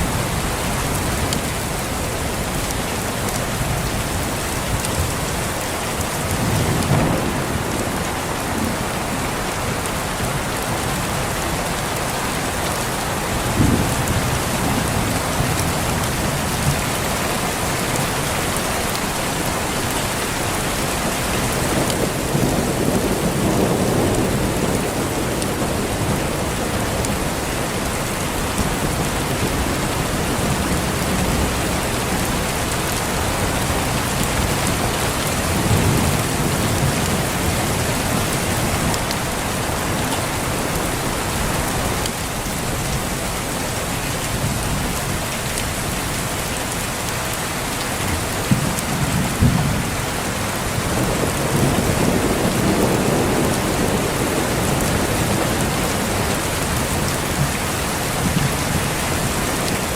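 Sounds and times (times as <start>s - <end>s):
heavy rain: 0.0s - 59.9s
low thunder rumbles: 3.5s - 11.8s, 12.4s - 19.2s, 20.4s - 41.8s, 48.1s - 59.9s.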